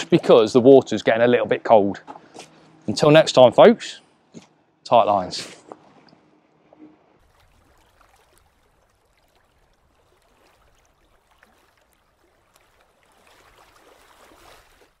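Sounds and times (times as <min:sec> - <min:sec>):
water lapping and trickling: 0:00.0 - 0:02.8, 0:04.4 - 0:15.0.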